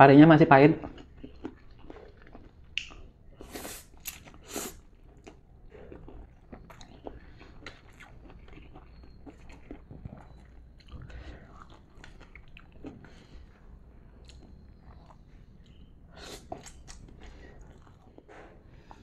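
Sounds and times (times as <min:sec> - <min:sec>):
person chewing crunchy food: 0:00.8 - 0:19.0
wet chewing clicks: 0:00.8 - 0:19.0.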